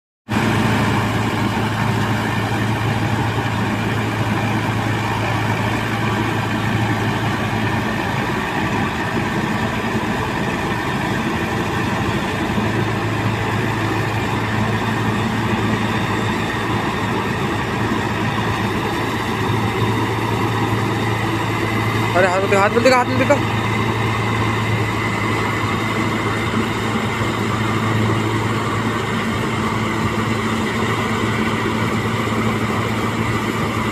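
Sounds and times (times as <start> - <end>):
tractor engine low hum: 0.3 - 33.9.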